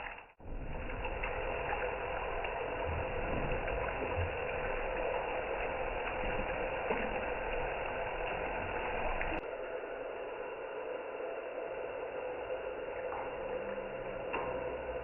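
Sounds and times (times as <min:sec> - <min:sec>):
steady hum: 0:00.5 - 0:15.0.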